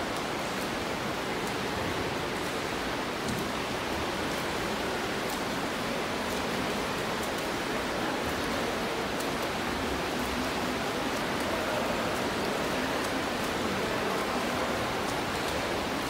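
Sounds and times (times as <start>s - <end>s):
small water splashes: 0.0s - 16.0s
swimming strokes water wash: 0.0s - 16.0s.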